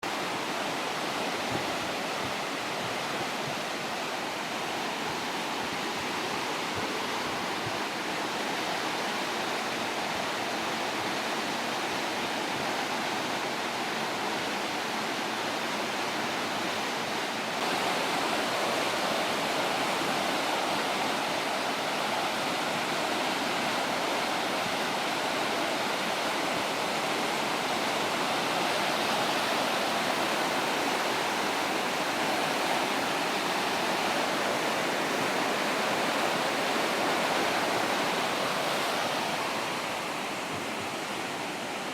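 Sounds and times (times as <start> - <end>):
water rushing down a creek: 0.0 - 41.9.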